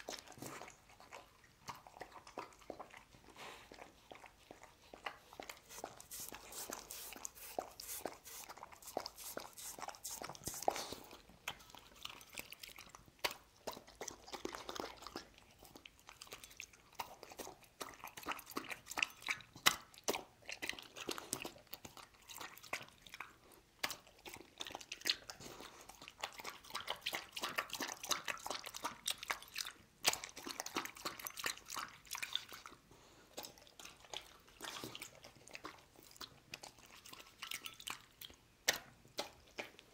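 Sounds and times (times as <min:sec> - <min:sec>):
dog lapping and chewing: 0:00.0 - 0:39.9.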